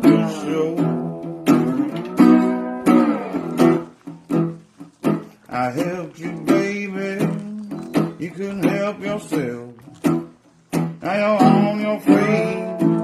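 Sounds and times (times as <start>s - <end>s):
blues guitar: 0.0s - 13.0s.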